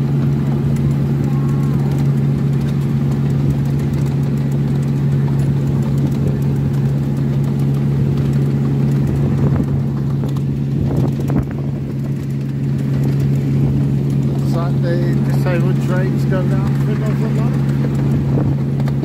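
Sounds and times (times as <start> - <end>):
locomotive diesel engine running: 0.0 - 19.0.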